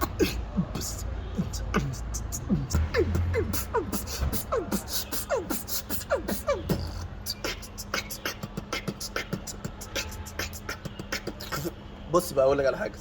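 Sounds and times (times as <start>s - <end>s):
beatboxing falling sweeps: 0.0s - 11.8s
mouth clicks: 0.0s - 11.8s.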